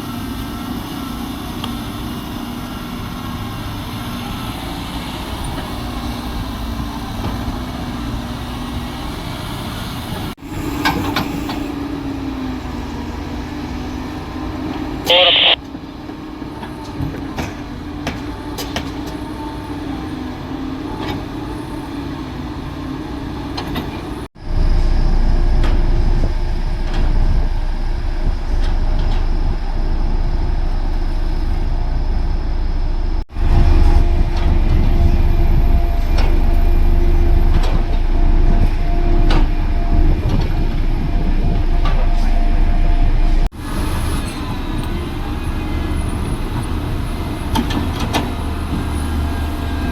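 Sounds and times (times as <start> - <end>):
heavy engine rumble: 0.0 - 49.9.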